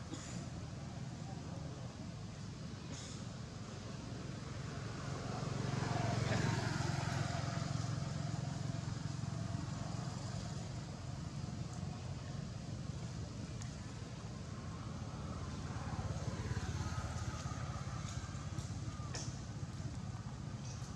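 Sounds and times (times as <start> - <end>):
motor vehicle passing by: 3.6 - 20.9.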